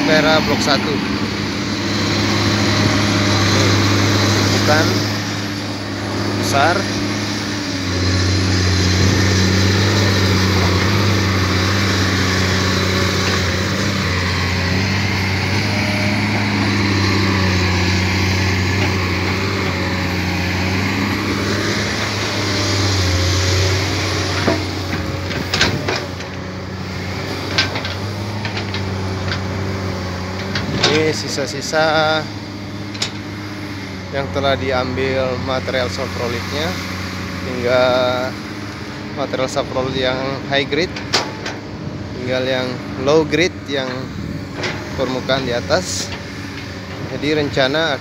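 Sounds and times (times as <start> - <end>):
excavator diesel engine humming: 0.0 - 48.0.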